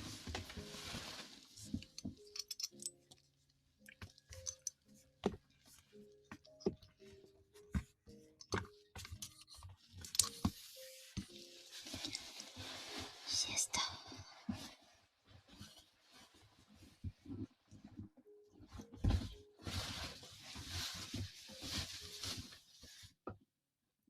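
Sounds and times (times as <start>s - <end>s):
quiet background music: 0.0s - 23.4s.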